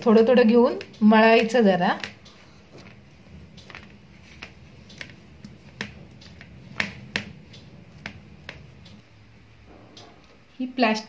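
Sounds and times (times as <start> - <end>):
hand slapping and patting dough: 0.0 - 9.1.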